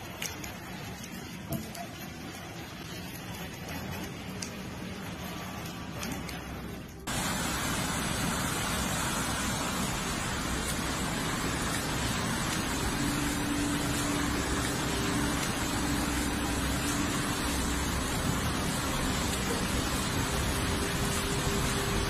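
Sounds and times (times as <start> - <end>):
flood water rushing: 0.0 - 22.0.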